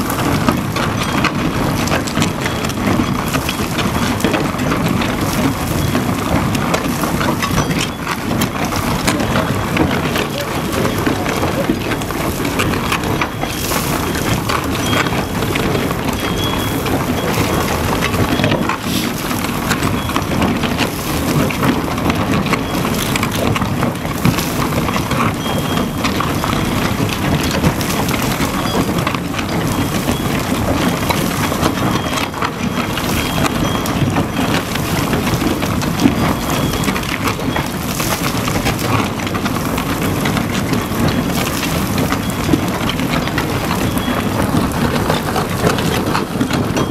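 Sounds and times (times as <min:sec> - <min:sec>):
boring machine grinding rumble: 0:00.0 - 0:46.9
crumbling concrete crackle: 0:00.0 - 0:46.9.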